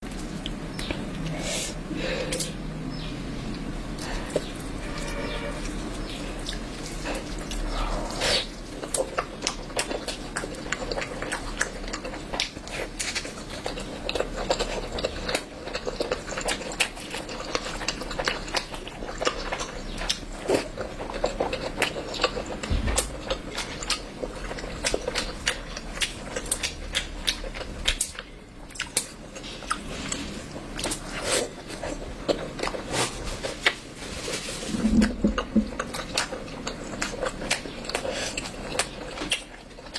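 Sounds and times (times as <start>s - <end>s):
person chewing food: 0.0s - 33.8s, 34.9s - 39.9s.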